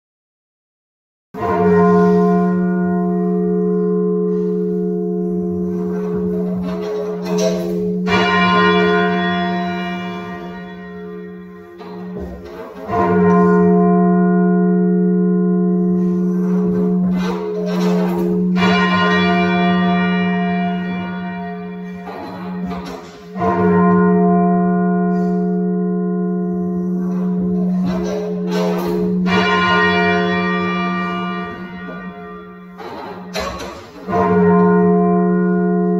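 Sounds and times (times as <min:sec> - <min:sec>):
loud clear bell stroke: 0:01.4 - 0:35.9
muffled church bell strokes: 0:01.4 - 0:35.9.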